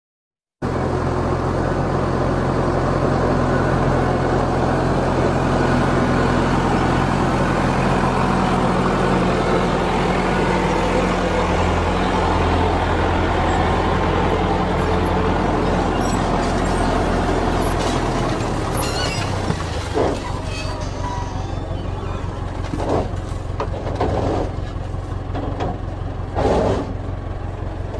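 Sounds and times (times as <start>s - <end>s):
vehicle engine idling: 0.6s - 27.9s.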